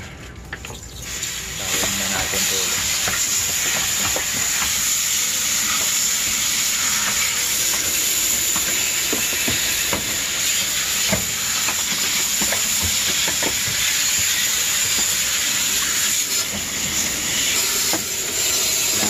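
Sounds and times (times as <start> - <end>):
water jet spraying on metal fins: 0.9 - 19.0.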